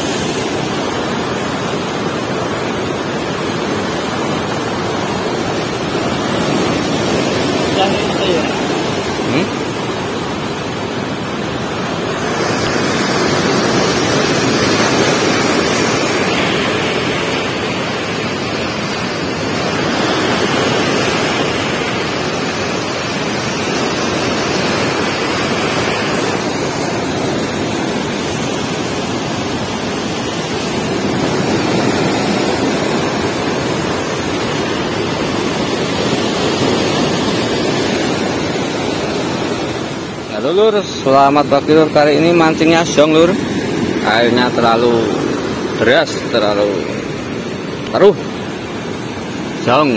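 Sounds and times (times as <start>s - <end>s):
floodwater rushing: 0.0s - 49.9s.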